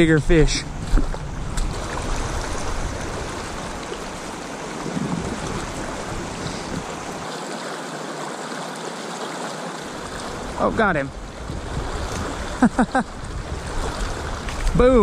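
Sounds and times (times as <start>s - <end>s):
river flowing over rocks: 0.8s - 15.0s.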